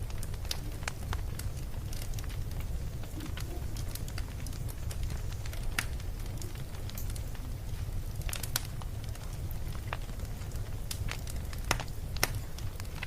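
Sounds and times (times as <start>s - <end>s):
firewood crackling and popping: 0.0s - 13.0s.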